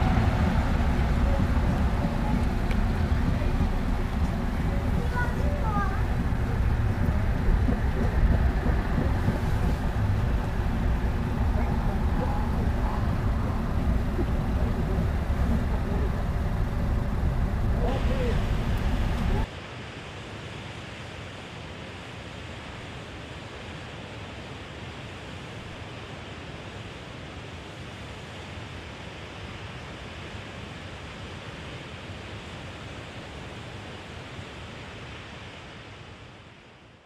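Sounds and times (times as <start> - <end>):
ocean surf rushing: 0.0 - 37.0.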